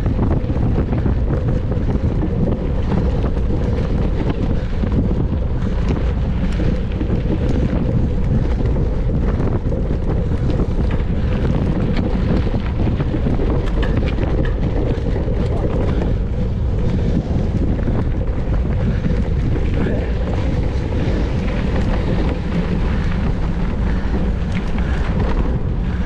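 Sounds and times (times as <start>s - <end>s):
faint clicks and rattles: 0.0s - 26.0s
wind buffeting microphone: 0.0s - 26.0s.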